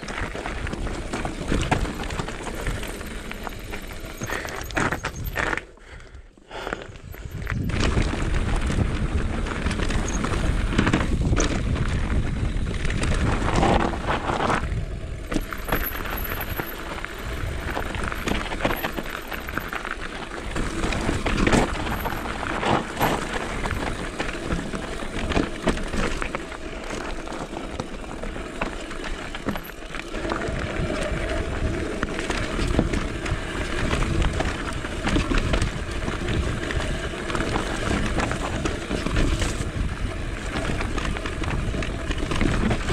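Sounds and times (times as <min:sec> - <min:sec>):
tyres crunching over gravel: 0:00.0 - 0:05.9, 0:06.5 - 0:42.9
bike knocking and rattling: 0:00.0 - 0:42.9.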